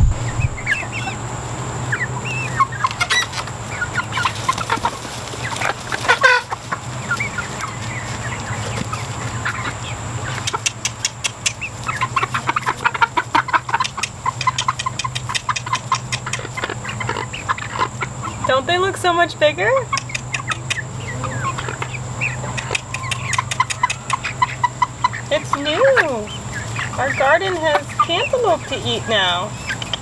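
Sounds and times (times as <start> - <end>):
chicks peeping and clucking: 0.0 - 30.0.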